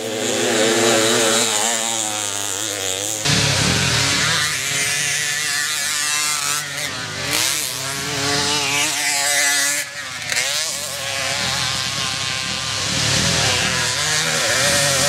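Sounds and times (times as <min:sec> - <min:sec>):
moped engines revving: 0:00.0 - 0:15.0.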